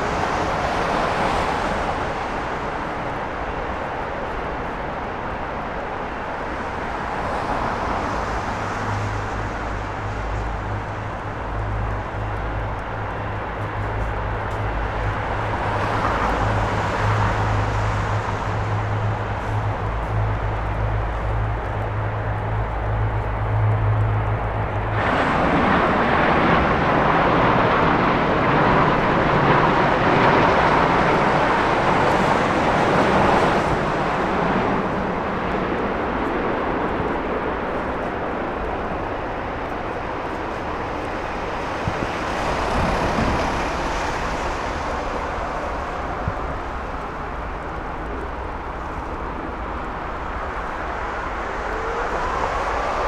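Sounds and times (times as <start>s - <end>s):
jet engine roar: 0.0s - 53.0s
low hum: 8.2s - 53.0s.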